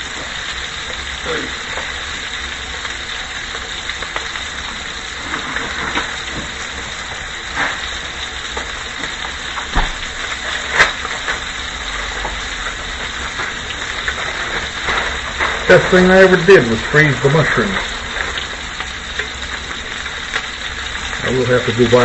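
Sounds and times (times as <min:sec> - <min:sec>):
food sizzling in a skillet: 0:00.0 - 0:22.0.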